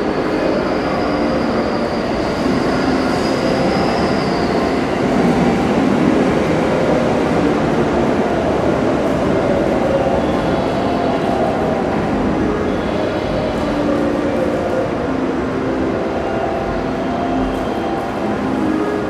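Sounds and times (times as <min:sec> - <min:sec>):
train equipment hum and hiss: 0:00.0 - 0:19.0.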